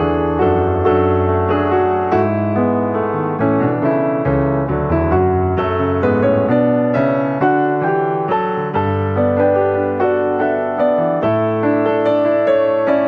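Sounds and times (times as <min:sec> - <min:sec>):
piano notes: 0:00.0 - 0:13.0.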